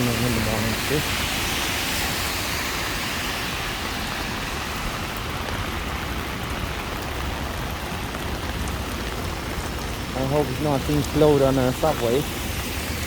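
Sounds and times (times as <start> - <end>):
heavy rain hiss: 0.0 - 13.0
traffic on wet streets: 0.0 - 13.0.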